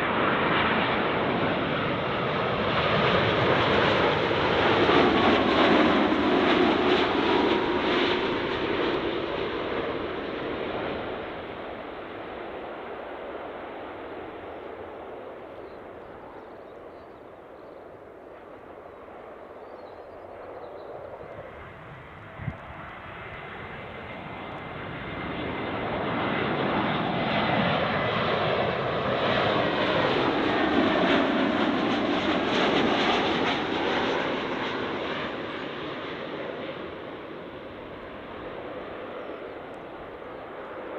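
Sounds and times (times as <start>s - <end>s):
airliner passing overhead: 0.0s - 40.9s.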